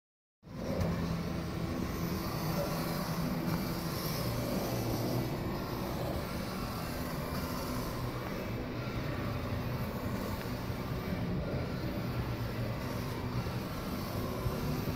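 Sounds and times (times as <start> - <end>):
low hum and rumble of hall: 0.4 - 14.9.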